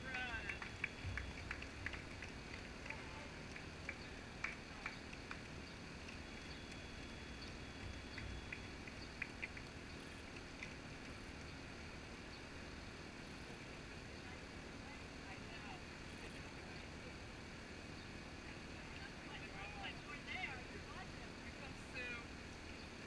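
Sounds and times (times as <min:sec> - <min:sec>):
steady background noise: 0:00.0 - 0:23.0.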